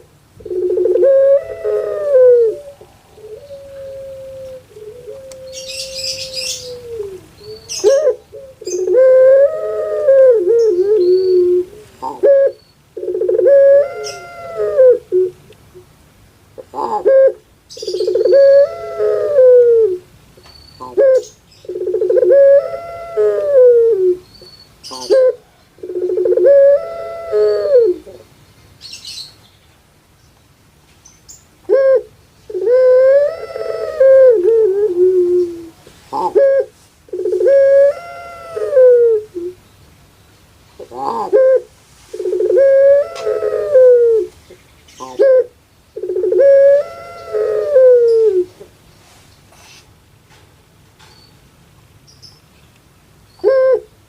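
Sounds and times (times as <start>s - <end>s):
dove cooing: 0.0s - 15.9s, 16.6s - 20.1s, 20.8s - 28.3s, 31.7s - 39.6s, 40.8s - 48.7s, 53.4s - 54.0s.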